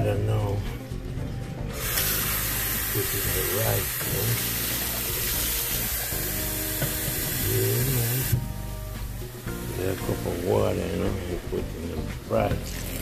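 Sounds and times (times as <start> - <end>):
kitchen tap running: 1.7 - 8.4, 9.1 - 13.0.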